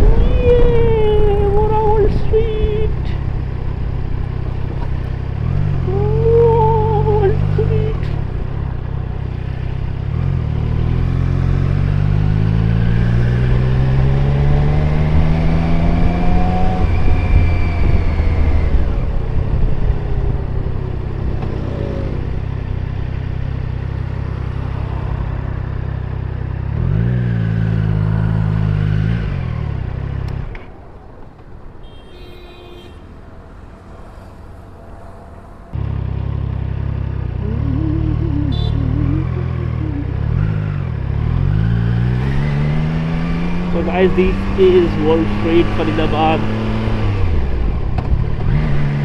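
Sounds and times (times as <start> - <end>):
motorcycle engine accelerating: 0.0 - 30.7, 33.6 - 49.0.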